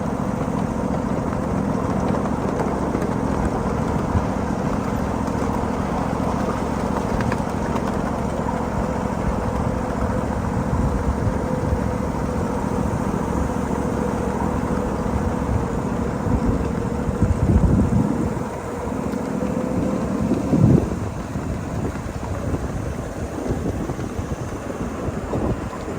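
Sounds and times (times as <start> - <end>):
constant steady tone: 0.0 - 25.9
rumble of train wheels on rail: 0.0 - 25.9.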